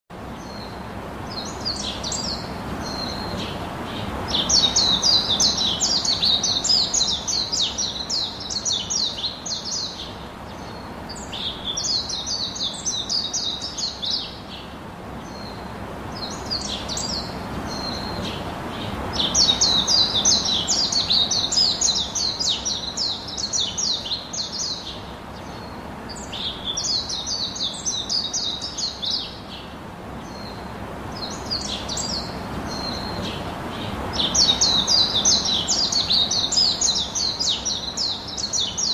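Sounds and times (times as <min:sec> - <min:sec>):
low background hiss: 0:00.1 - 0:38.9
small birds twittering: 0:00.1 - 0:38.9.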